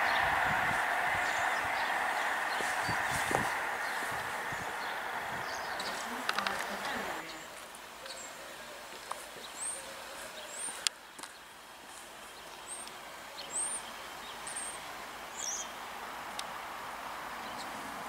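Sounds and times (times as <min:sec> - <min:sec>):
faint steady rushing noise: 0:00.0 - 0:18.0
small birds chirping: 0:00.0 - 0:18.0.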